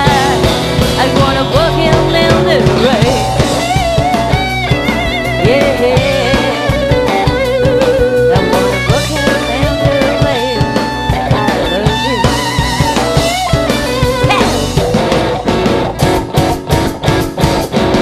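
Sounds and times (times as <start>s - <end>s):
electric guitar with bends: 0.0s - 18.0s
live rock band playing: 0.0s - 18.0s.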